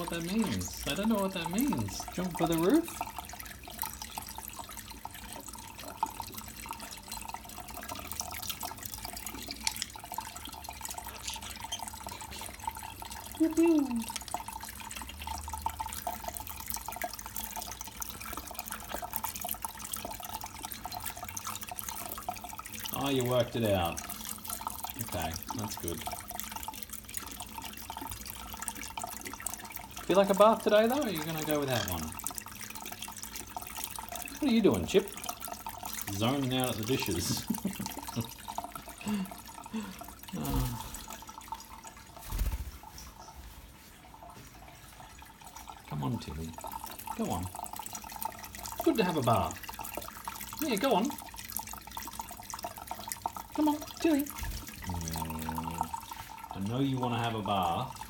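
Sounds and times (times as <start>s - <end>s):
water drips: 0.0s - 58.0s
water trickling in a sink: 0.0s - 58.0s.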